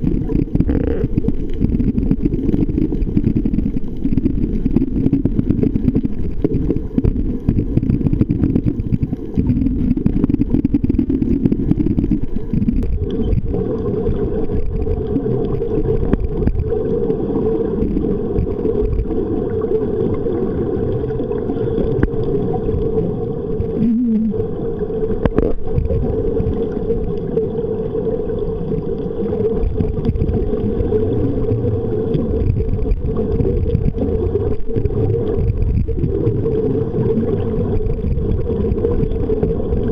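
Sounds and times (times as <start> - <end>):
underwater rumble: 0.0 - 39.9.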